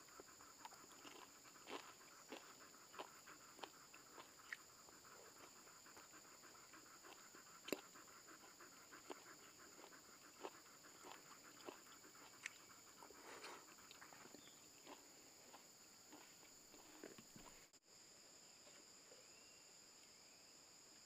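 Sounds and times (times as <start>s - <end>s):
dog panting: 0.0s - 17.6s.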